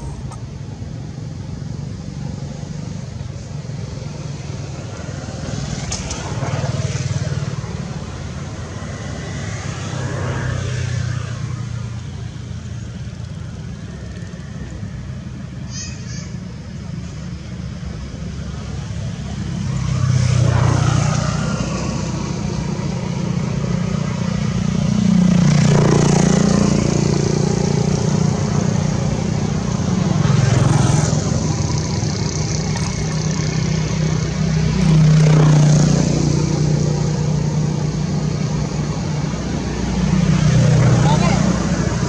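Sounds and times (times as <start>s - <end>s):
vehicles passing on road: 0.0s - 42.0s.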